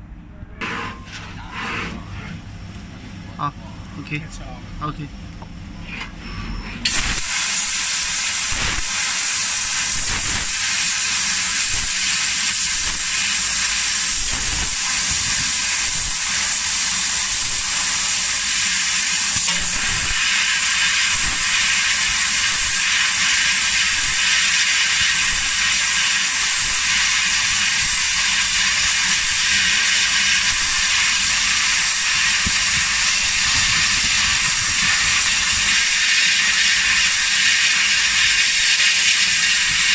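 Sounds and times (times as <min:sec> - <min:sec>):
laser cutter gas jet hissing: 0:06.8 - 0:39.9.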